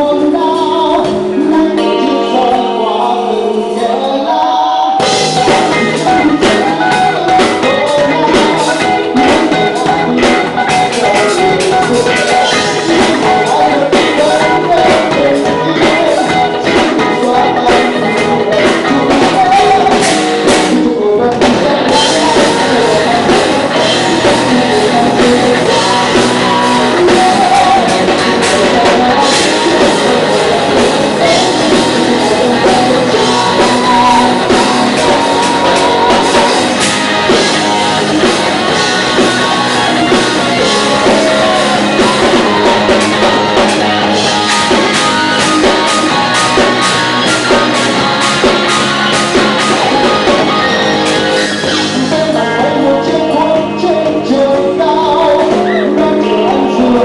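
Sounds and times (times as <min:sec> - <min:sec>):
drum kit: 0:00.0 - 0:04.3, 0:05.0 - 0:57.0
live rock band playing: 0:00.0 - 0:57.0
ringing guitar chords: 0:00.0 - 0:57.0.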